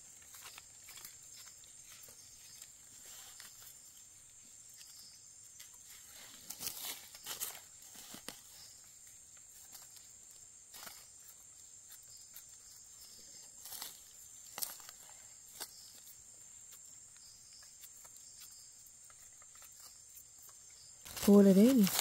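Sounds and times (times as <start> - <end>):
rustling in dry leaf litter: 0.0 - 16.8, 20.7 - 22.0.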